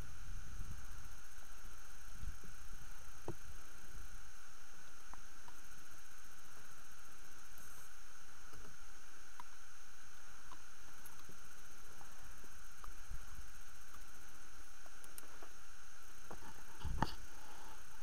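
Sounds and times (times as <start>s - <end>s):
camera recording hiss and whine: 0.0s - 18.0s.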